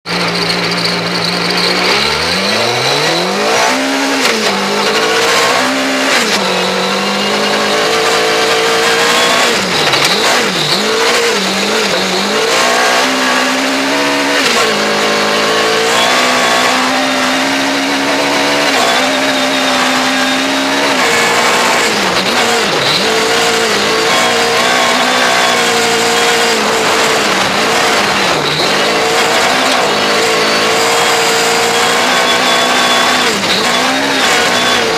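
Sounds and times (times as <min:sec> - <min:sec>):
rally car engine revving: 0:00.0 - 0:34.9
road and wind noise: 0:00.0 - 0:34.9.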